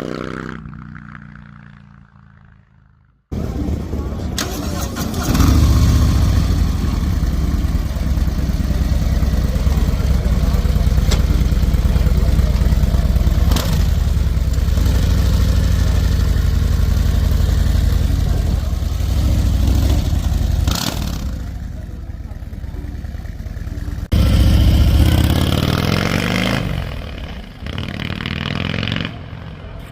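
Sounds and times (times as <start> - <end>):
motorcycle engine starting and idling: 3.3 - 29.9.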